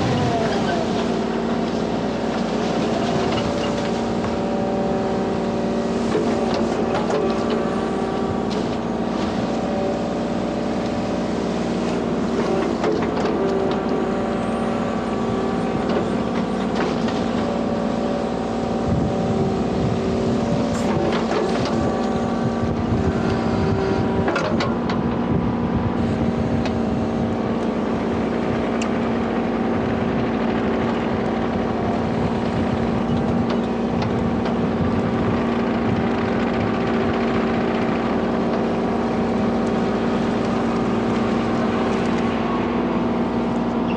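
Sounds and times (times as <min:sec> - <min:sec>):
diesel engine drone: 0:00.0 - 0:43.9.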